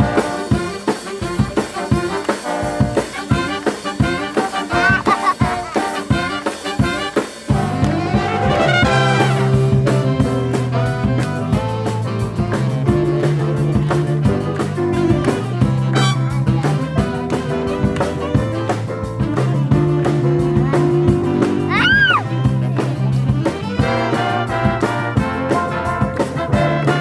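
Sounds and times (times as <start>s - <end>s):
big band playing rock: 0.0s - 27.0s.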